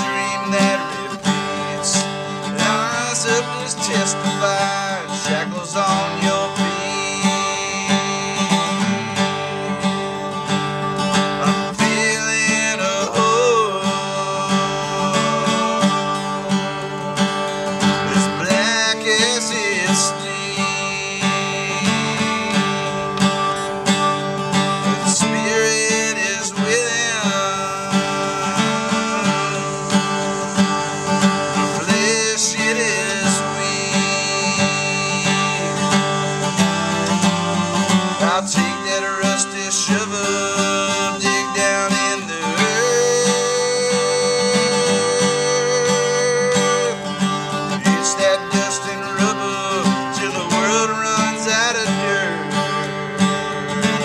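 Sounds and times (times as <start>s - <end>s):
acoustic guitar picking and strumming: 0.0s - 54.0s
man singing: 0.0s - 54.0s.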